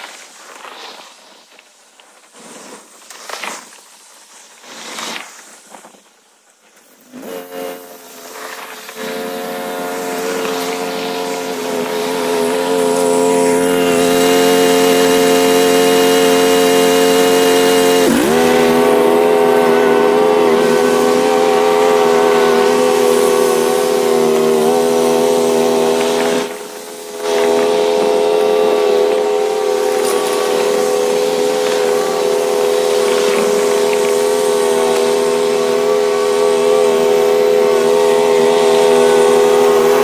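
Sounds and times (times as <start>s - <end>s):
mower engine running: 7.1s - 40.0s.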